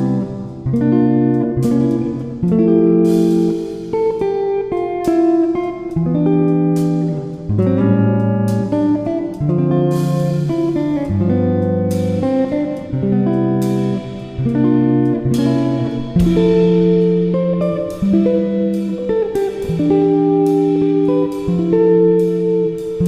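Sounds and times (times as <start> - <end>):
guitar strumming chords: 0.0 - 23.0.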